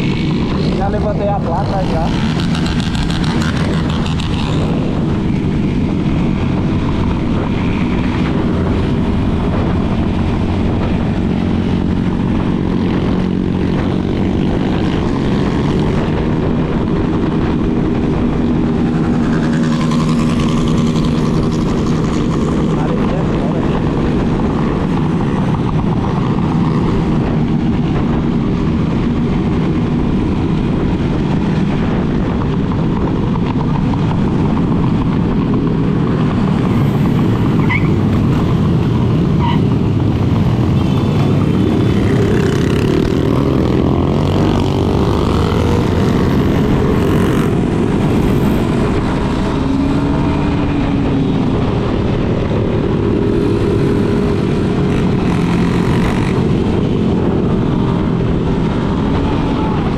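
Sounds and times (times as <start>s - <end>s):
group of motorcycles riding: 0.0s - 59.9s.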